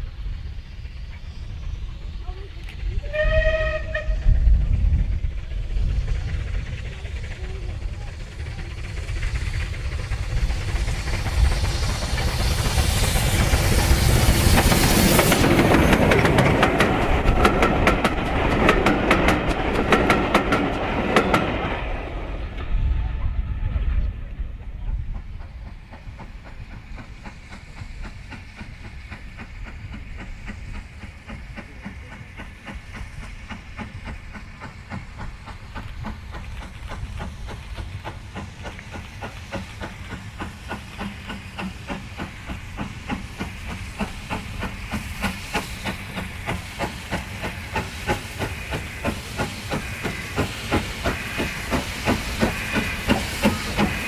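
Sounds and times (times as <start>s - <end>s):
steam hissing: 0.0s - 54.0s
steam locomotive exhaust beats: 0.0s - 54.0s.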